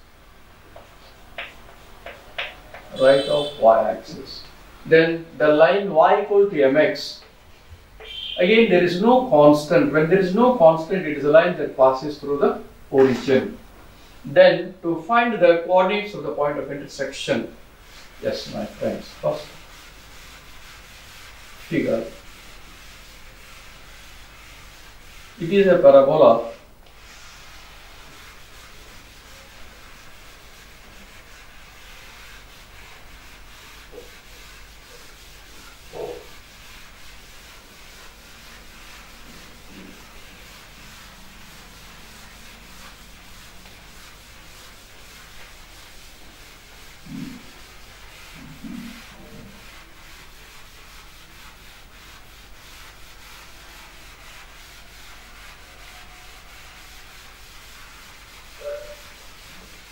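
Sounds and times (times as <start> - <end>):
scratchy drawing strokes on paper: 0.8 - 7.0, 16.1 - 59.9.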